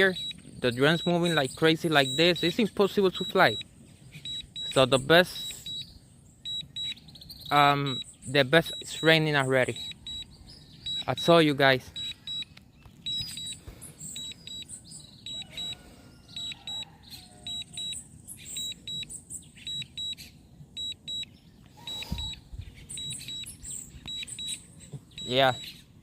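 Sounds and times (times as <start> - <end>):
remote controller alert beeps: 0.0 - 25.8.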